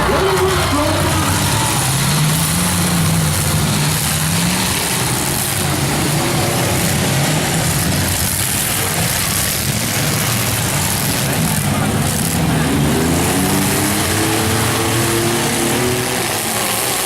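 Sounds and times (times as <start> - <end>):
car engines idling and revving: 0.0 - 17.0.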